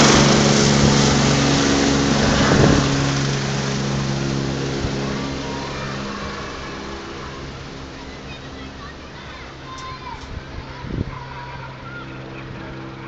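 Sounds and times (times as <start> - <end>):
helicopter flying off: 0.0 - 13.0.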